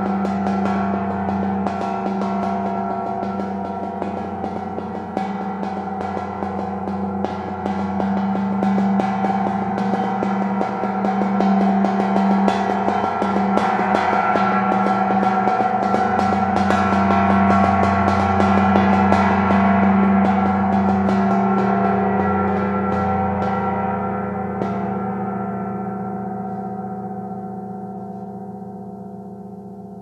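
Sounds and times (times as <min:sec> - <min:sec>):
tam-tam mallet roll: 0:00.0 - 0:29.3.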